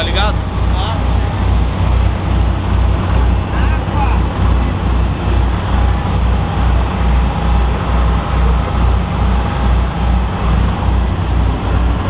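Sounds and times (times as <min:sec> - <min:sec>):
low regular pulsing: 0:00.0 - 0:12.0
motorboat engine: 0:00.0 - 0:12.0
water noise: 0:00.0 - 0:12.0.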